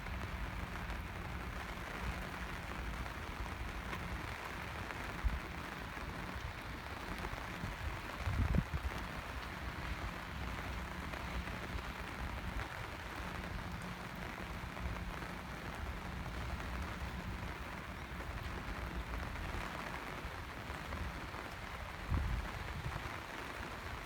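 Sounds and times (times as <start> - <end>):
rain pattering on surfaces: 0.0 - 24.0.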